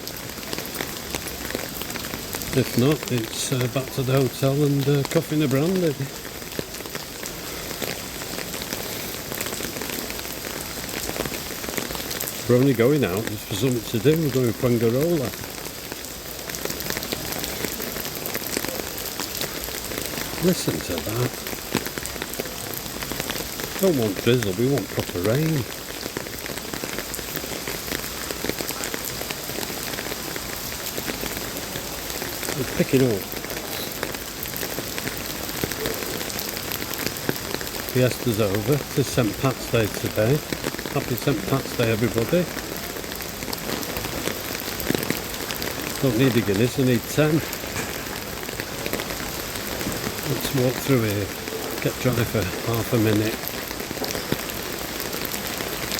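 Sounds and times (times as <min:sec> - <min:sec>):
pouring rain: 0:00.0 - 0:55.9.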